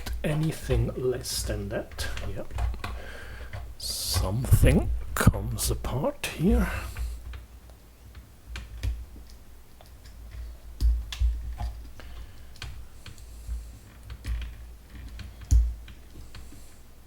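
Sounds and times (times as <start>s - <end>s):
plastic parts clicking and knocking: 0.0s - 5.4s, 8.1s - 16.7s.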